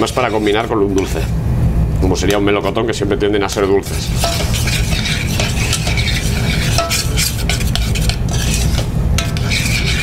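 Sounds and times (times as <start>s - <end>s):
utensil scraping saucepan: 0.0s - 1.4s, 2.2s - 10.0s.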